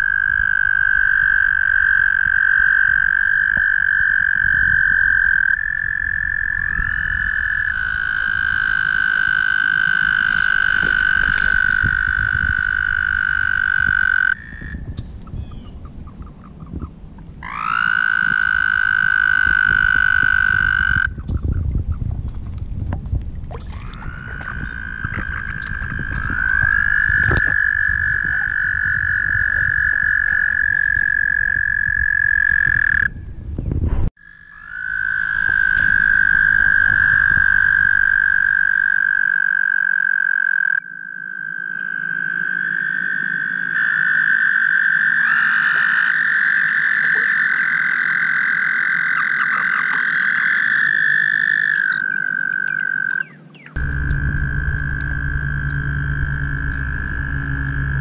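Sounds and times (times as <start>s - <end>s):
toads trilling: 0.0s - 21.7s, 23.6s - 33.2s, 34.2s - 58.0s.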